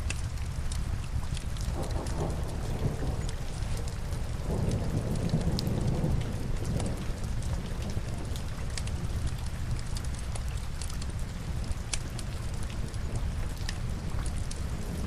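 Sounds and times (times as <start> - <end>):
burning logs crackling: 0.0 - 15.0
steady rain: 0.0 - 15.0.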